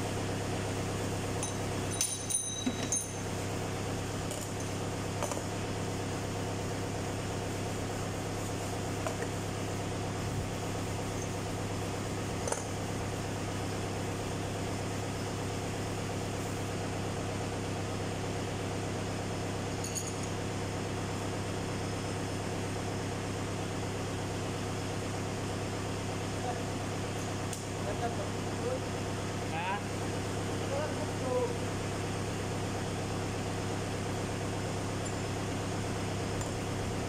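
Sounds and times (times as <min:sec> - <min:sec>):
low mechanical hum of machinery: 0:00.0 - 0:37.0.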